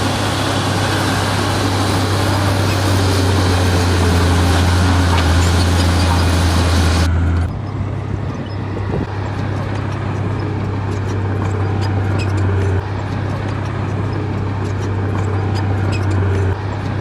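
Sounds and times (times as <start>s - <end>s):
heavy machinery diesel engine running: 0.0s - 17.0s.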